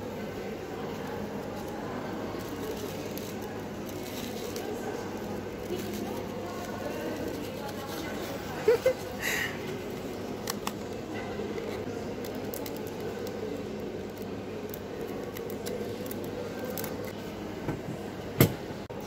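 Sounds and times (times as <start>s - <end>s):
room hum: 0.0s - 19.0s
soft crinkles: 0.8s - 17.2s
paper and plastic rustling: 0.9s - 17.2s.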